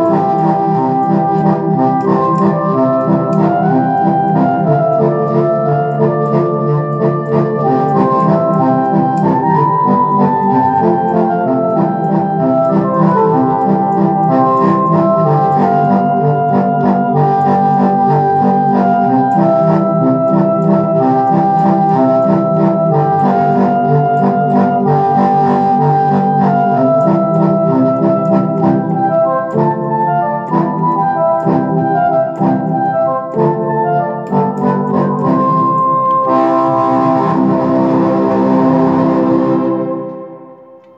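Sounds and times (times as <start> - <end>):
electronic keyboard melody and chords: 0.0 - 40.9.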